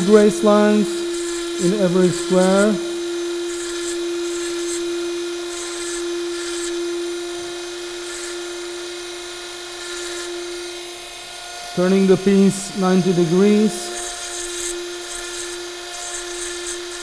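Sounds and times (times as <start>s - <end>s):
burr scratching antler: 0.0s - 10.7s, 11.8s - 17.0s
rotary tool whining: 0.0s - 17.0s.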